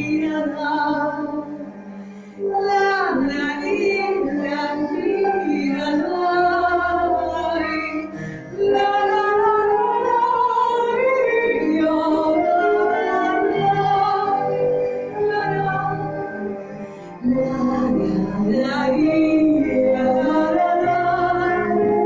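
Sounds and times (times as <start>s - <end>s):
woman singing: 0.0s - 1.7s, 2.4s - 22.0s.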